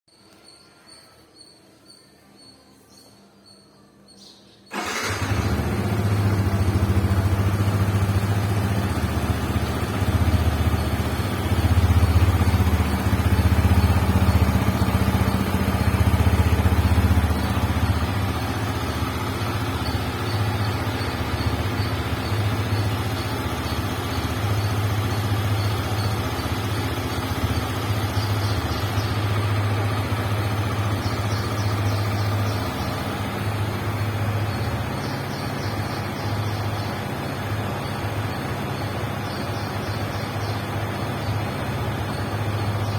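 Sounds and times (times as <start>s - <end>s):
motorcycle engine idling: 4.7s - 42.9s.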